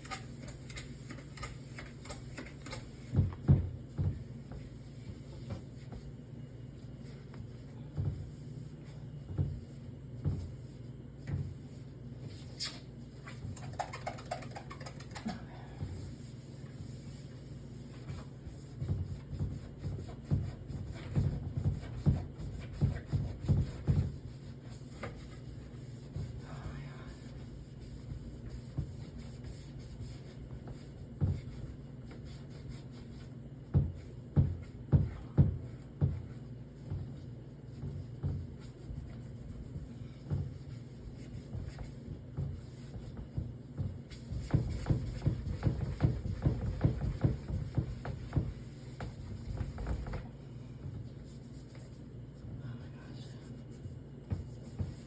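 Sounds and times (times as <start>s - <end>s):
rubbing strokes scrubbing a fridge: 0.0s - 55.0s
steady low hum: 0.0s - 55.0s.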